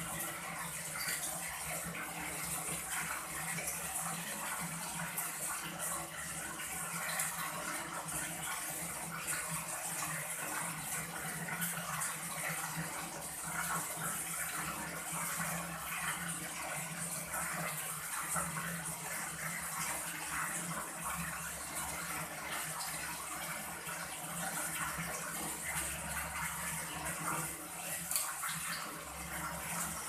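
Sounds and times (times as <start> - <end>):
tap water running: 0.0 - 30.0.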